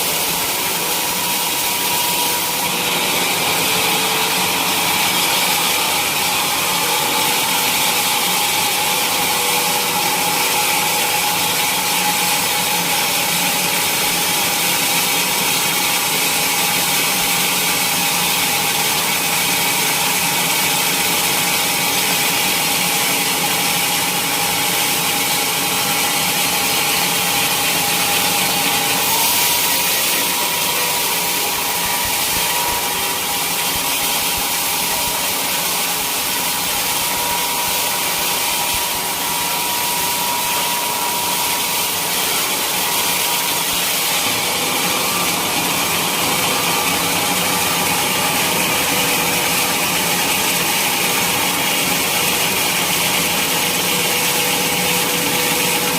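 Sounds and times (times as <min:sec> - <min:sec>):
sawmill saw whine: 0:00.0 - 0:55.9.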